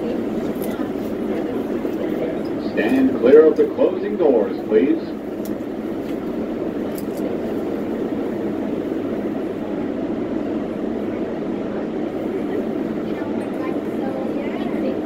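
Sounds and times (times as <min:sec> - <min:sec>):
subway car wheels on rails: 0:00.0 - 0:15.0.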